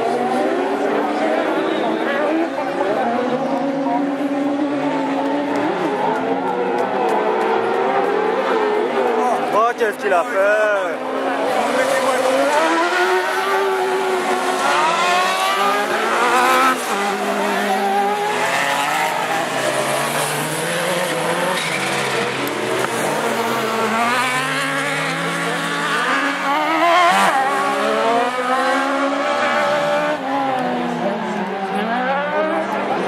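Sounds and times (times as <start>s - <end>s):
racing car engines revving: 0.0s - 33.0s.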